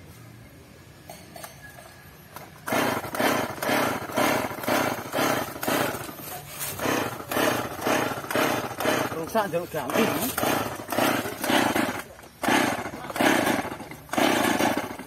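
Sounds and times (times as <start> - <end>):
chainsaw starter cord pulls: 2.4 - 15.0.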